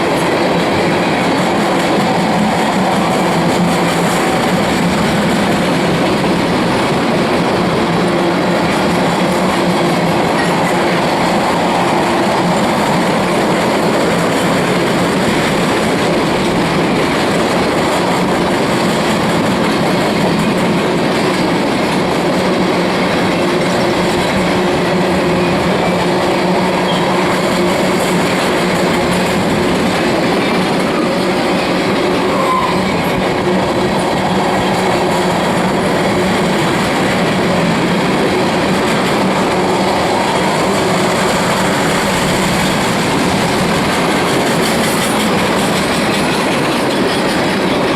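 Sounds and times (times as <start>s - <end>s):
steel wheels rolling on rail: 0.0s - 47.9s.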